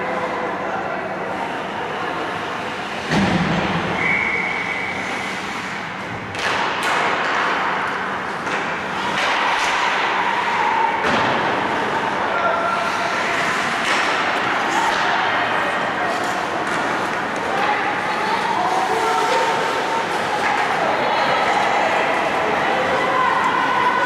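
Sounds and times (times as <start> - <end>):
ice rink background noise: 0.0 - 24.0.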